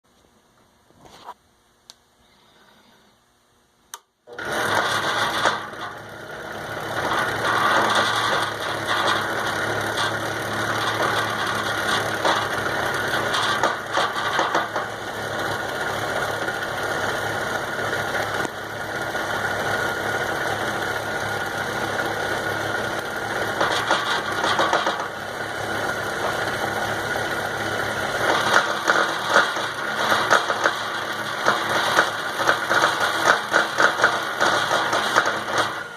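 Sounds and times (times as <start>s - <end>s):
lathe clicking: 4.3s - 18.6s, 20.4s - 35.9s
lathe motor running: 4.3s - 35.9s.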